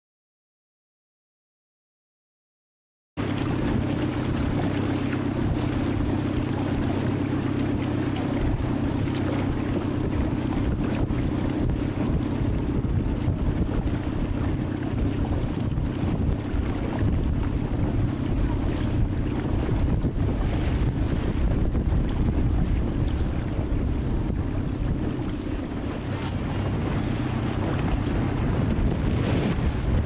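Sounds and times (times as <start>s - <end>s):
choppy water: 3.2s - 30.0s
low rumble: 3.2s - 30.0s
wind buffeting microphone: 3.2s - 30.0s.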